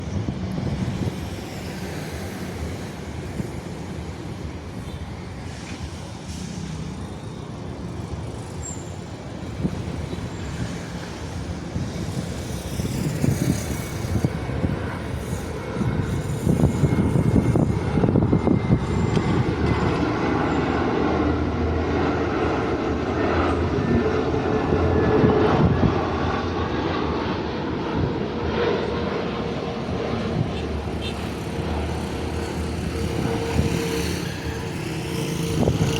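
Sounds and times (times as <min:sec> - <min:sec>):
airliner engine rumble: 0:00.0 - 0:35.9
steady engine whine: 0:00.0 - 0:35.9.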